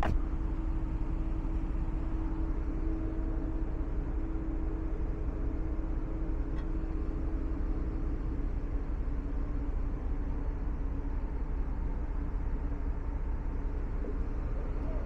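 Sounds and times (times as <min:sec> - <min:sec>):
ferry engines rumbling: 0:00.0 - 0:15.0.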